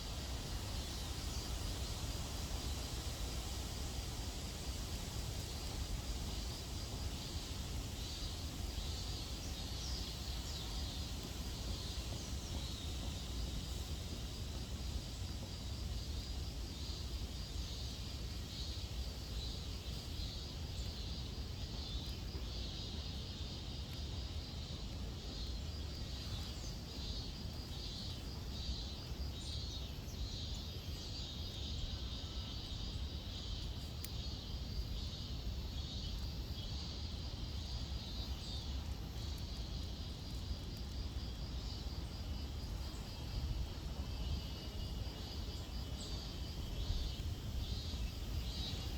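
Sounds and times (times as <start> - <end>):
insects buzzing chorus: 0.0 - 48.9.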